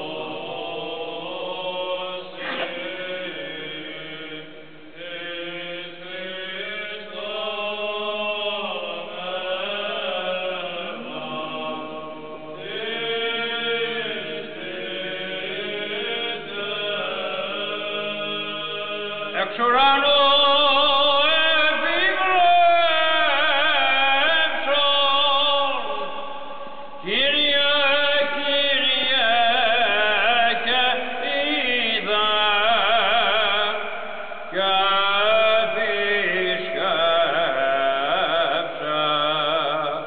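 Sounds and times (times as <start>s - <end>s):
voices singing a chant: 0.0s - 40.0s.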